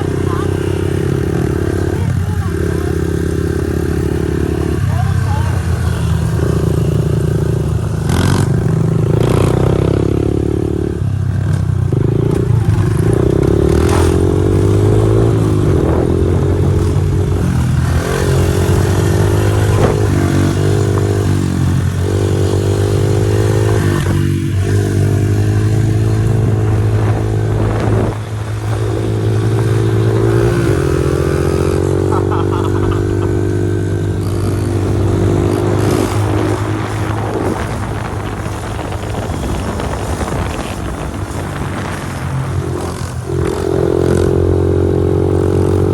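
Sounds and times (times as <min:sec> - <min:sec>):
pit bike engine revving: 0:00.0 - 0:45.9.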